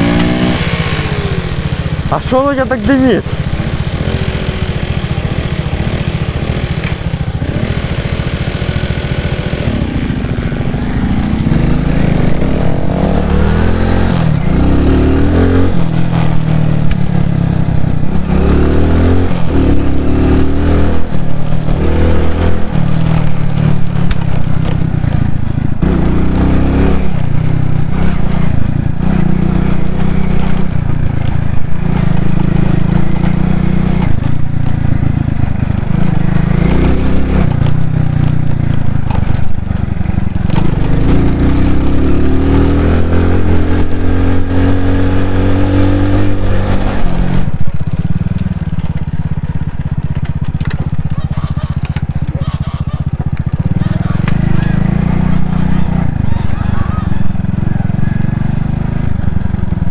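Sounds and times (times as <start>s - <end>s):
moped engine idling and revving: 0.0s - 59.9s.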